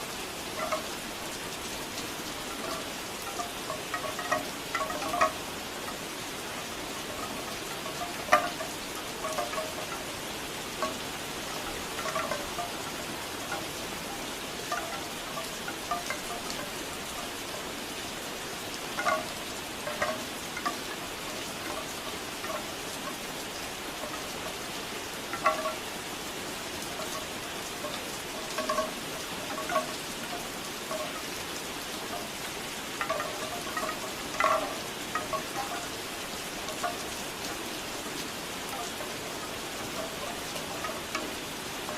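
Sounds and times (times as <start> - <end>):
bamboo wind chimes knocking: 0.0 - 41.9
steady rain: 0.0 - 41.9.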